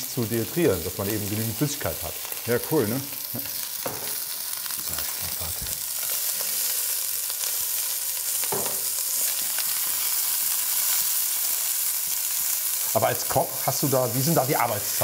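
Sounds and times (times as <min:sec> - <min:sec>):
meat sizzling in hot fat: 0:00.0 - 0:15.0.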